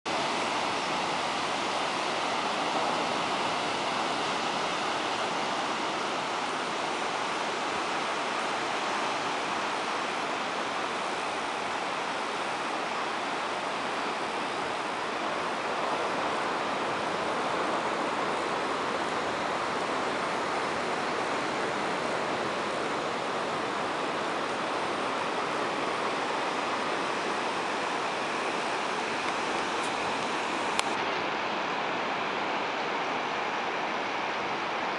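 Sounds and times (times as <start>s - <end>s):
waves breaking on beach: 0.1s - 34.9s.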